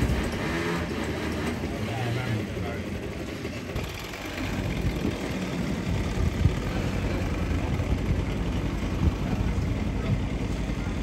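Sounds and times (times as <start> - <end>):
go-kart engine rumbling: 0.0 - 11.0.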